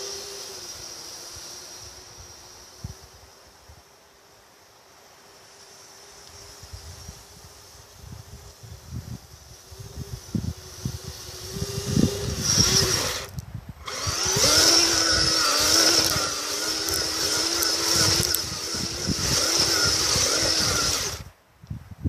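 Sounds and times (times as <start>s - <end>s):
electric motor whining: 0.0s - 3.6s, 5.4s - 21.3s.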